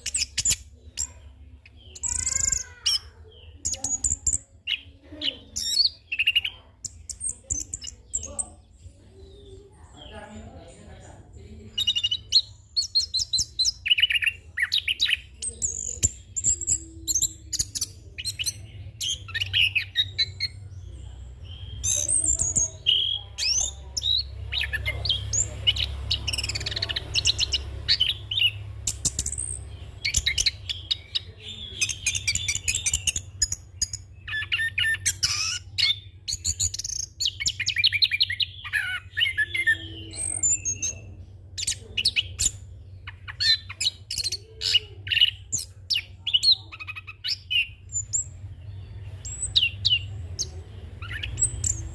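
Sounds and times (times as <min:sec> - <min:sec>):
thrush singing chirps and trills: 0:00.0 - 0:51.9.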